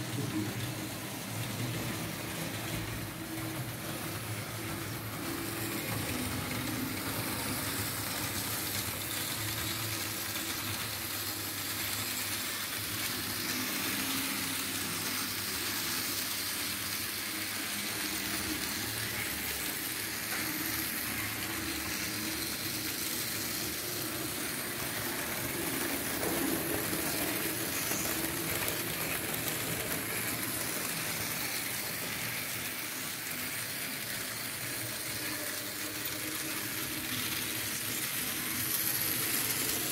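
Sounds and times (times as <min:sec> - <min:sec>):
wheels rolling on track: 0:00.0 - 0:39.9.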